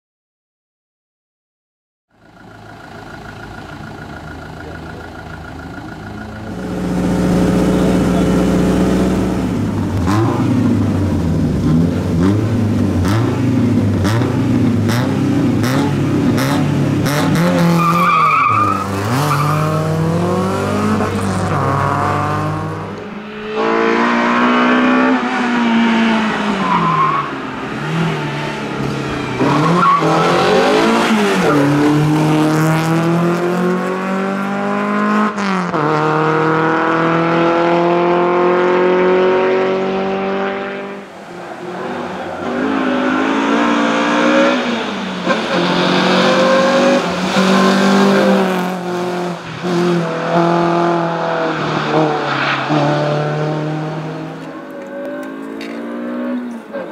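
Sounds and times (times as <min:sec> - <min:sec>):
rally car engine at full throttle: 0:02.1 - 0:56.9.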